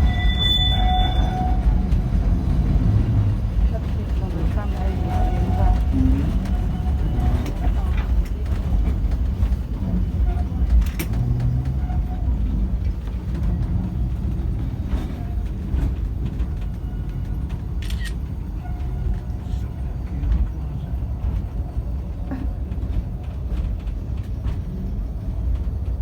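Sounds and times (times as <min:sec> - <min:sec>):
tram rumbling along track: 0:00.0 - 0:26.0.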